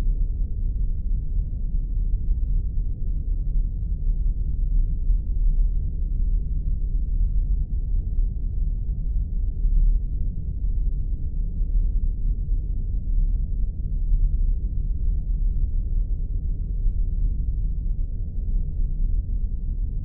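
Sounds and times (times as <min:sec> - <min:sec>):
deep spaceship rumble: 0:00.0 - 0:20.0.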